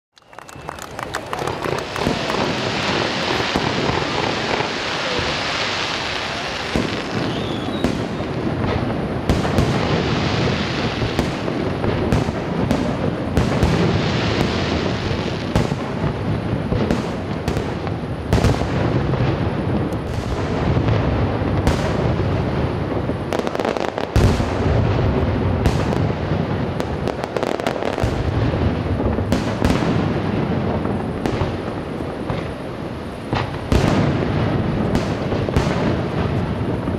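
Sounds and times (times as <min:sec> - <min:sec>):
fireworks bangs: 0:00.2 - 0:36.9
fireworks crackle and hiss: 0:00.2 - 0:36.9
deep fireworks booms: 0:00.4 - 0:36.9.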